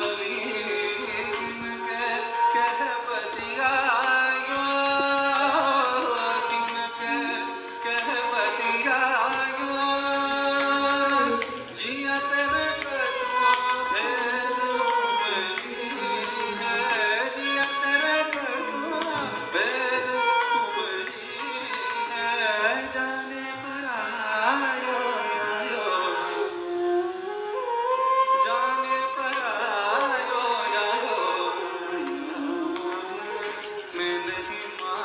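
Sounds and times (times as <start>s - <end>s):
instrumental accompaniment: 0.0s - 24.6s, 29.4s - 35.0s
person singing ornamented melody: 0.0s - 35.0s.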